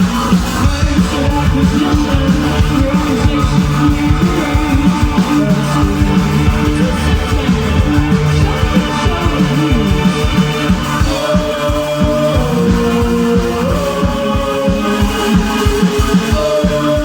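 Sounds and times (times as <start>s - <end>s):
electric guitars: 0.0s - 17.0s
fast dense drumming: 0.0s - 17.0s
live band playing loud: 0.0s - 17.0s.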